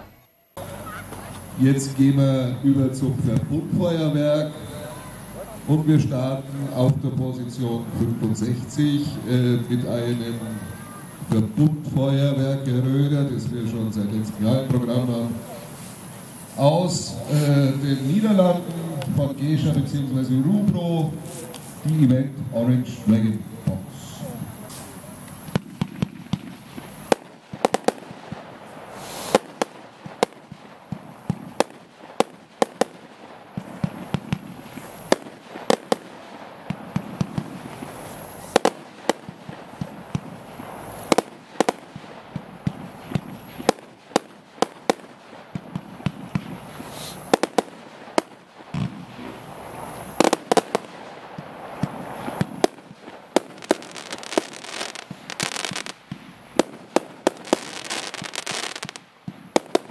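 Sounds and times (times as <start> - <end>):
firework bangs: 0.0 - 59.9
firework hissing and crackle: 0.0 - 59.9.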